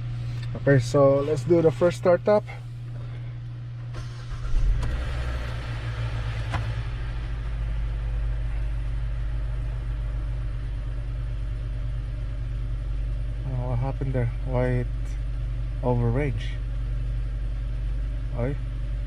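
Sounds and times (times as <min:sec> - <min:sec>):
car engine starting and running: 0:00.0 - 0:19.0.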